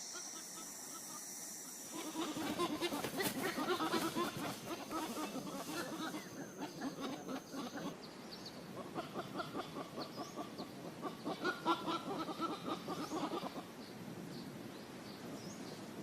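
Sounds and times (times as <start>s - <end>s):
birds clucking and chirping: 0.0s - 13.9s.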